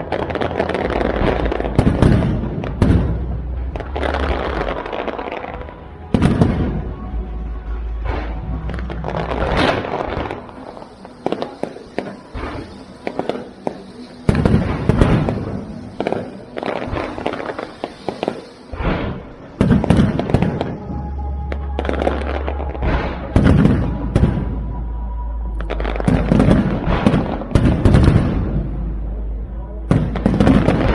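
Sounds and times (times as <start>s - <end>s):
fireworks crackling and popping: 0.0s - 30.9s
fireworks deep booms: 0.0s - 30.9s.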